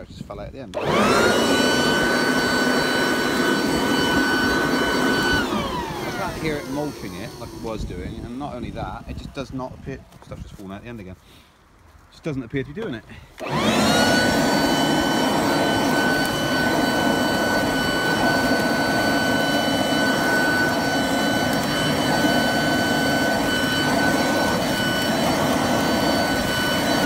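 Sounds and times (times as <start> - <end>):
leaf blower whining: 0.7 - 10.7, 12.8 - 27.0.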